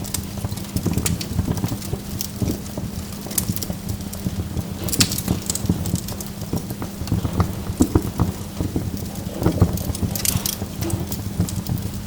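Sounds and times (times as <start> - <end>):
burning logs crackling: 0.0 - 12.0
low rumble of fire: 0.0 - 12.0.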